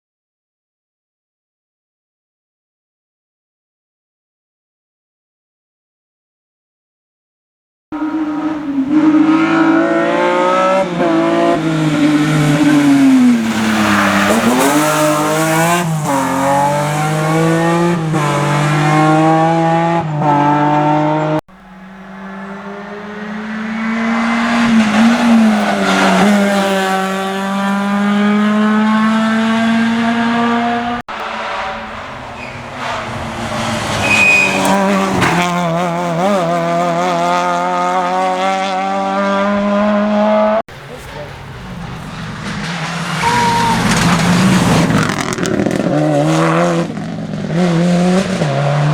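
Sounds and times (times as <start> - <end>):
rally car engines revving: 8.0 - 48.9.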